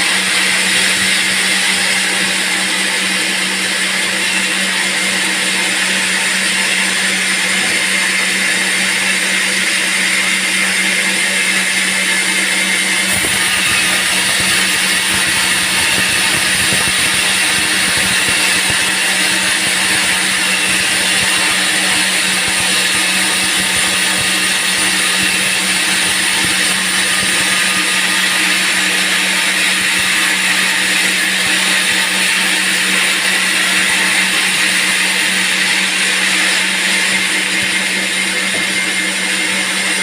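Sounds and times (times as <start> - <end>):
band sawmill sawing log: 0.0 - 40.0.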